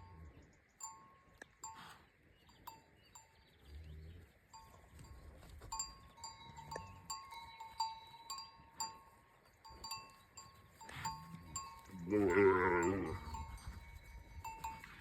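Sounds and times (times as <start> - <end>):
livestock neck bells clinking: 0.0 - 15.0.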